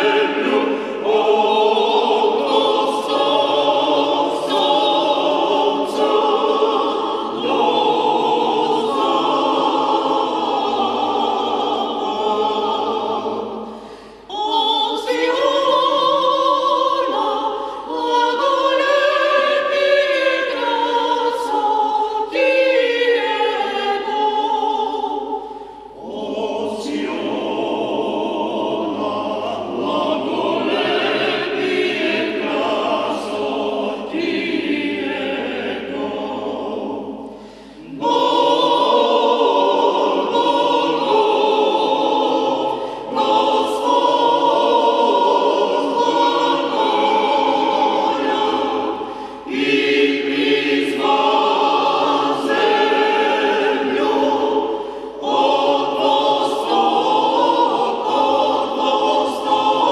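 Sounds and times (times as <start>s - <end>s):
mixed choir singing a hymn: 0.0s - 59.9s.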